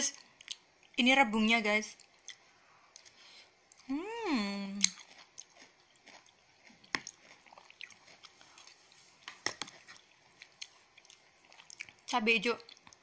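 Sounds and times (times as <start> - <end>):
person chewing food: 0.1 - 1.0, 1.9 - 3.9, 4.6 - 13.0.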